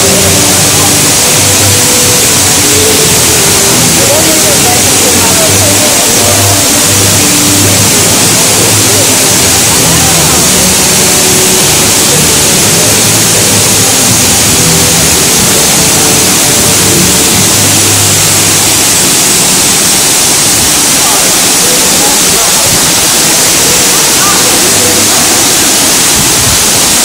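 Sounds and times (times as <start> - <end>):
rush of falling water: 0.0 - 27.0.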